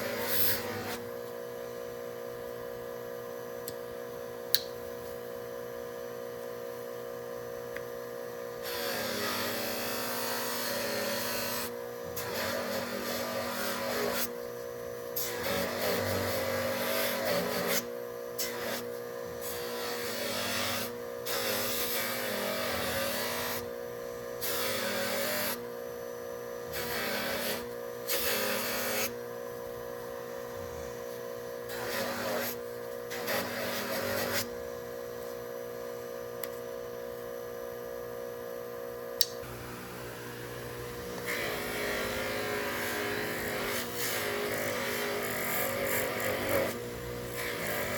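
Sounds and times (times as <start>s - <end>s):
steady electrical hum: 0.0s - 47.9s.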